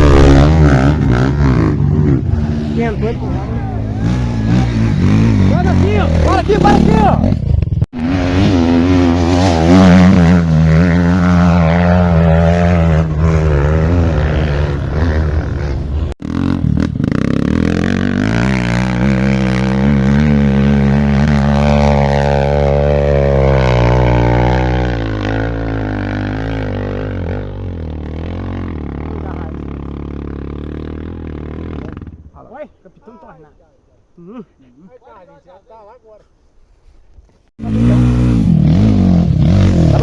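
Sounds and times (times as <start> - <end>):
dirt bike engines revving: 0.0 - 33.5, 37.6 - 40.0.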